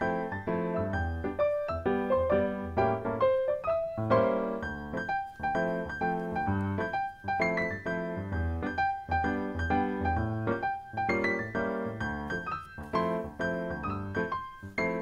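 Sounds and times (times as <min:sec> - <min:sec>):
piano music with steady beat: 0:00.0 - 0:15.0.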